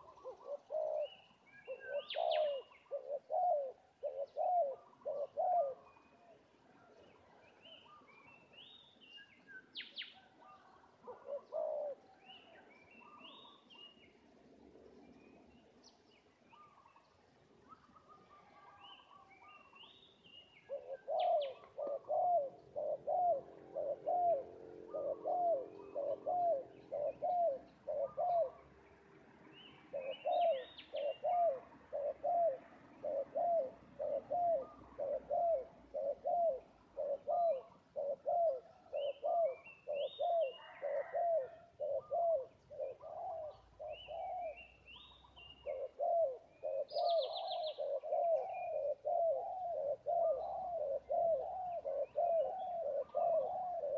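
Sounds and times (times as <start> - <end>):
dove cooing: 0.0 - 8.1, 9.8 - 13.8, 20.5 - 28.7, 29.8 - 53.9
small birds chirping: 0.0 - 53.9.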